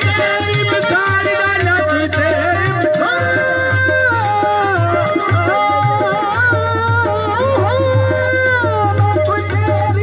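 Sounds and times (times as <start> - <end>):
harmonium chords: 0.0 - 10.0
low hand-drum beat: 0.0 - 10.0
quick percussion strikes: 0.0 - 10.0.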